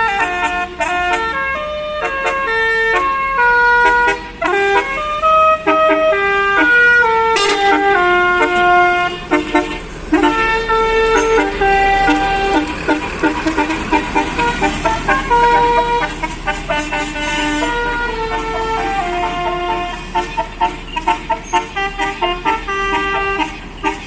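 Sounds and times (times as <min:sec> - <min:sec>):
multi-tone bus horn melody: 0:00.0 - 0:24.0.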